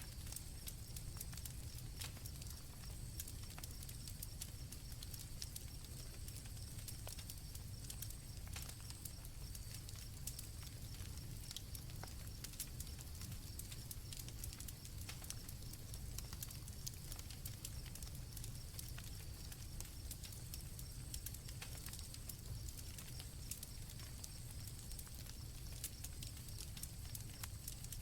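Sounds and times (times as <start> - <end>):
campfire crackling and popping: 0.0 - 28.0
crickets trilling: 0.1 - 28.0.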